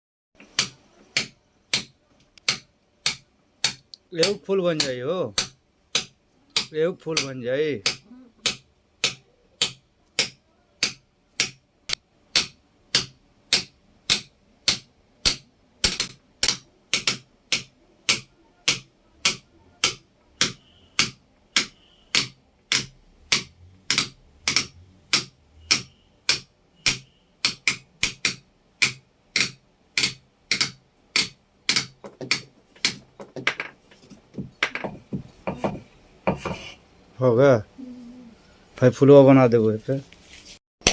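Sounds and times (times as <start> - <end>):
hammer striking chisel on stone: 0.4 - 36.7.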